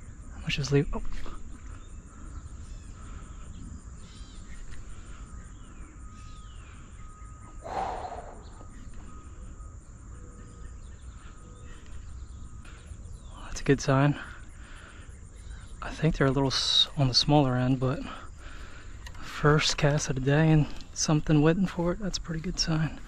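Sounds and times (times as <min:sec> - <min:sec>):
faint chirps: 0:00.0 - 0:23.0
high-pitched insect trill: 0:01.8 - 0:23.0.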